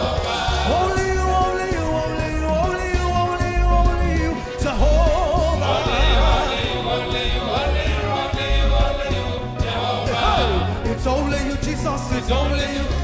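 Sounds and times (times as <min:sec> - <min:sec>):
person singing gospel: 0:00.0 - 0:13.0
pulsing bass beat: 0:00.0 - 0:13.0.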